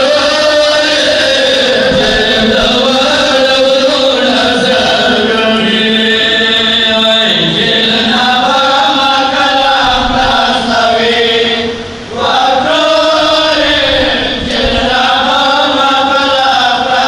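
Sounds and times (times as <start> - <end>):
men chanting a slow lament: 0.0 - 17.0.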